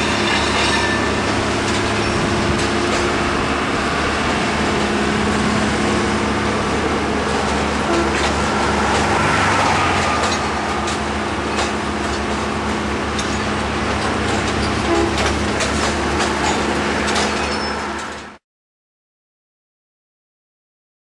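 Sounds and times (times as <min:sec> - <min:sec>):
crane diesel engine running: 0:00.0 - 0:18.4.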